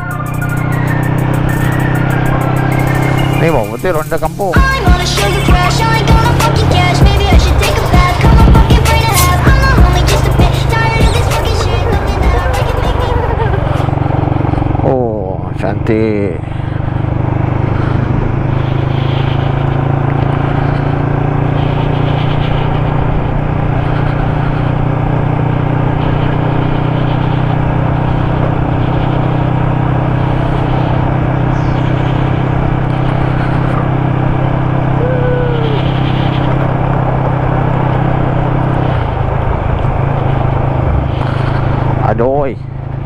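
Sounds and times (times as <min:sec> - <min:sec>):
road and tyre noise: 0:00.0 - 0:43.0
vehicle engine running: 0:00.0 - 0:43.0.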